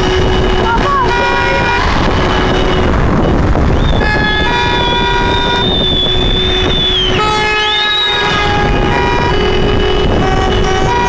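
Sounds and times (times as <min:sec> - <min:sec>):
car horns honking: 0:00.0 - 0:11.0
traffic rumble: 0:00.0 - 0:11.0.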